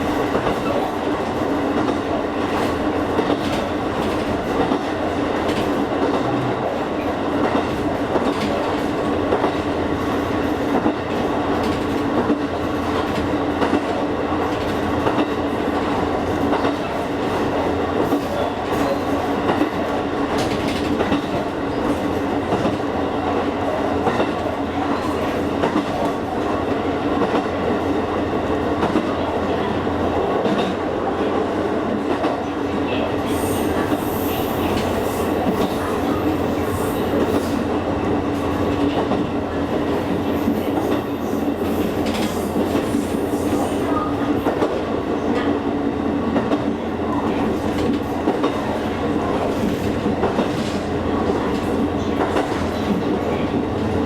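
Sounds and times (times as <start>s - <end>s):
train running hum: 0.0s - 54.0s.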